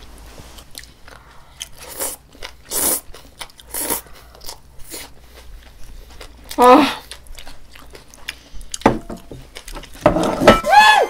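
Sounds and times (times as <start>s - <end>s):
chewing and slurping noodles: 0.5s - 10.0s.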